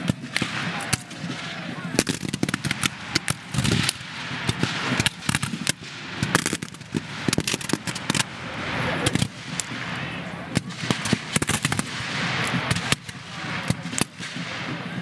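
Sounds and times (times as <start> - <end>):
muskets firing: 0.0 - 15.0.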